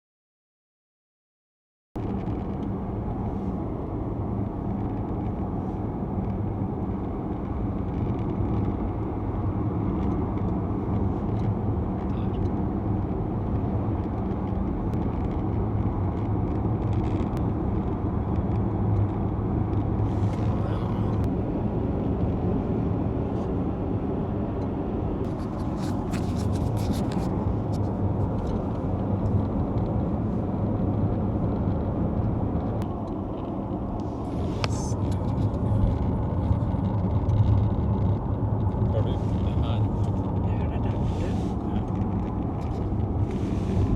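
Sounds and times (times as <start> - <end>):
car cabin low rumble: 2.0 - 43.9.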